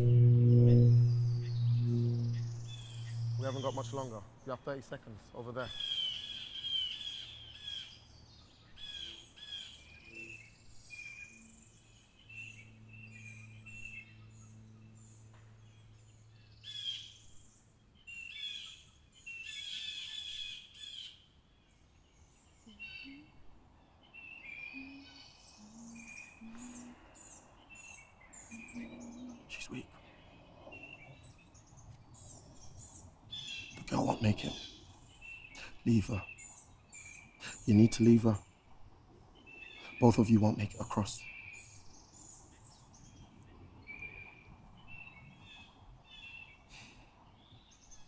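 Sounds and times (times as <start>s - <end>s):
woodland birds chirping: 0.0s - 48.0s.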